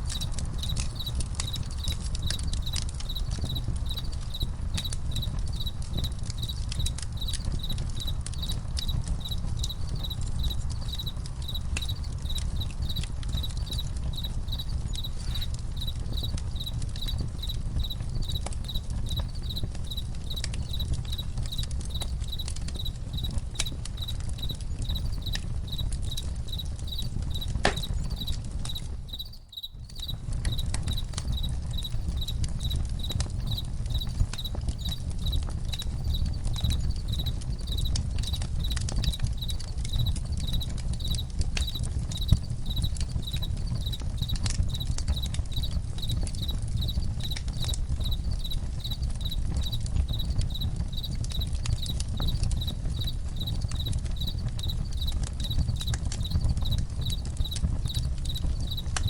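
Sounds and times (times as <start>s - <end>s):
campfire crackling and popping: 0.0s - 59.0s
campfire low rumble: 0.0s - 59.0s
crickets chirping: 0.1s - 58.9s.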